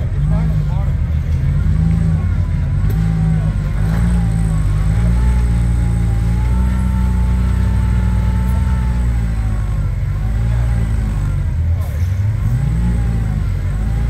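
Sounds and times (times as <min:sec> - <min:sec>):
buggy engine running at low revs: 0:00.0 - 0:14.0.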